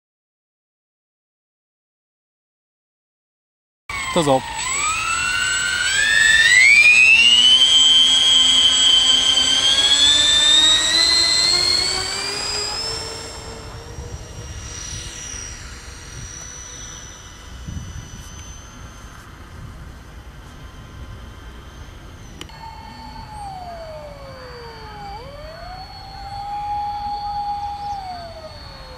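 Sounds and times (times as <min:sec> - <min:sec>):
model plane propeller motors whining: 0:03.9 - 0:28.9.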